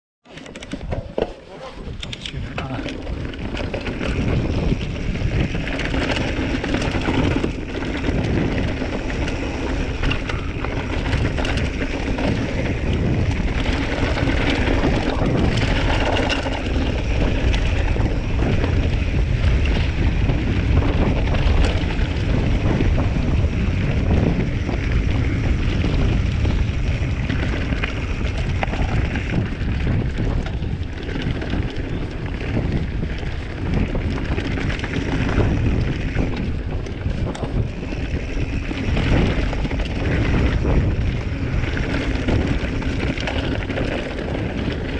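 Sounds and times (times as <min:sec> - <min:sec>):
mountain bike rumble and rattle: 0:00.2 - 0:44.9
wind buffeting microphone: 0:00.6 - 0:44.9.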